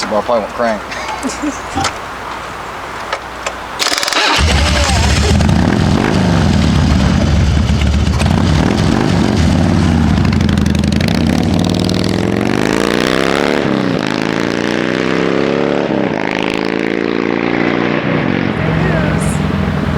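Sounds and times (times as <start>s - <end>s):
motorcycle engine revving: 3.8s - 19.9s.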